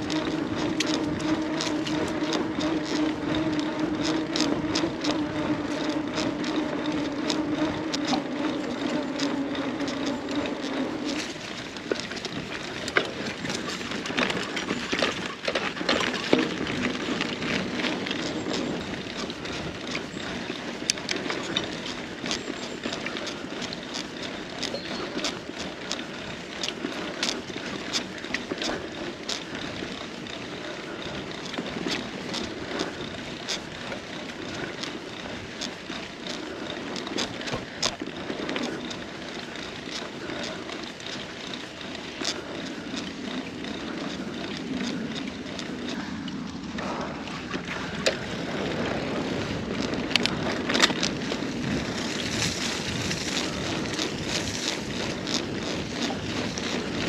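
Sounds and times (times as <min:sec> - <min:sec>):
bicycle tyre noise on trail: 0:00.0 - 0:57.0
bike clicks and rattles: 0:00.0 - 0:57.0.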